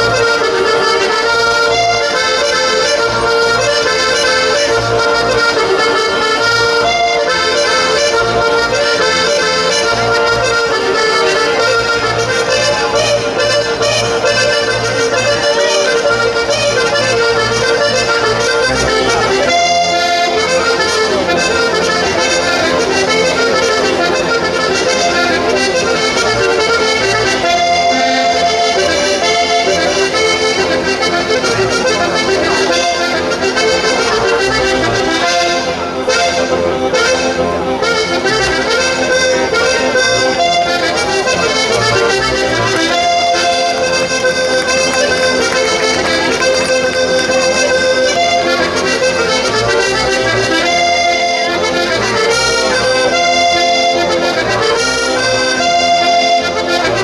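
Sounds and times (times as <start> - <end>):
accordion dance tune: 0.0 - 57.0.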